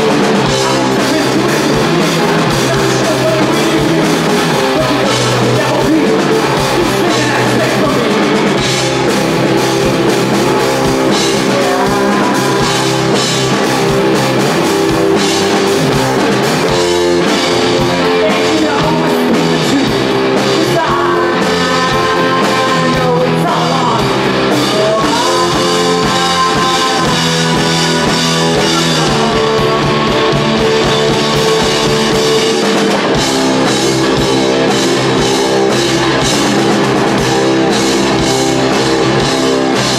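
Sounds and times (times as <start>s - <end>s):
distorted electric guitar: 0.0s - 39.9s
drum kit: 0.0s - 39.9s
electric bass: 0.0s - 39.9s.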